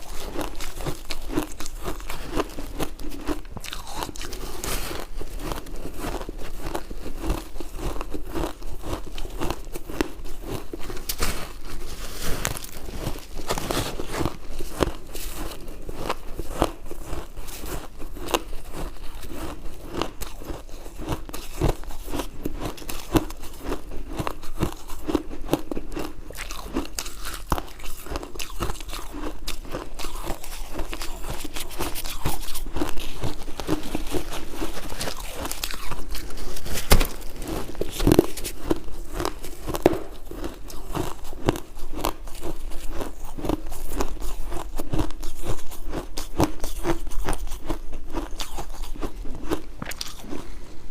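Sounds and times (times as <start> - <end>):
person chewing ice: 0.0 - 50.9.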